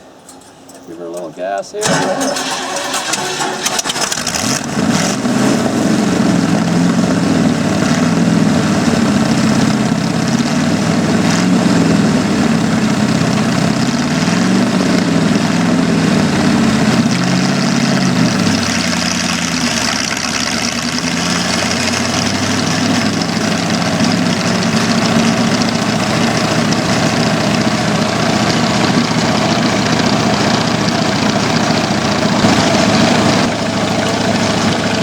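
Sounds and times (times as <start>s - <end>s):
car engine running: 1.8s - 35.0s.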